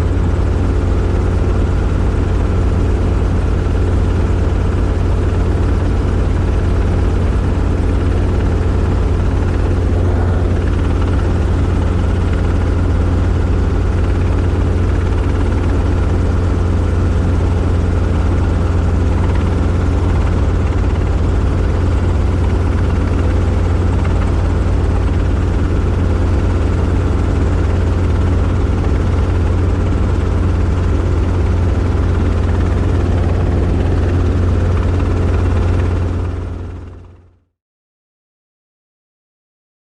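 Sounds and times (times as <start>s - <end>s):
helicopter rotor and engine drone: 0.0s - 37.4s.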